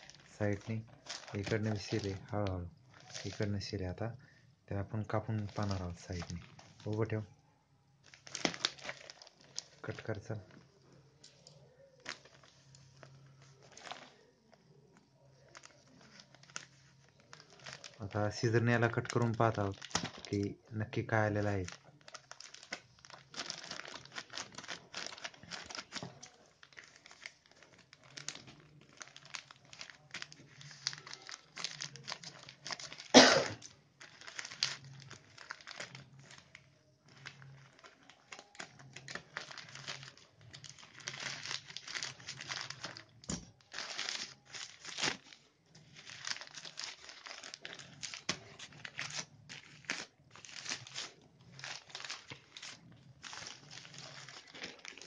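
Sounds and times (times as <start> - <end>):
plastic packet crinkling and tearing: 0.0 - 3.7, 5.0 - 7.2, 8.0 - 10.6, 11.2 - 14.5, 15.2 - 55.0
loud plastic crackle: 0.0 - 3.8, 8.0 - 10.6, 11.2 - 14.2, 15.3 - 55.0.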